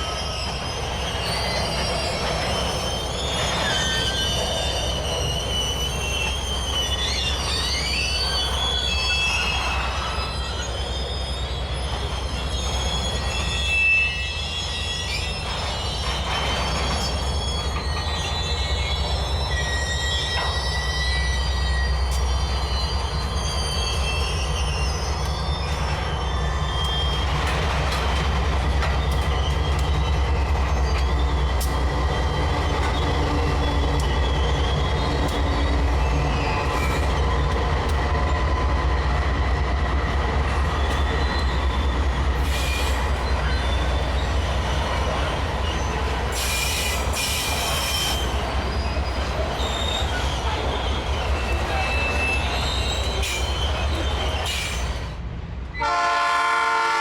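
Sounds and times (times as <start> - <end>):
steel wheels squealing: 0.0 - 55.2
train wagons rumbling past: 0.0 - 57.0.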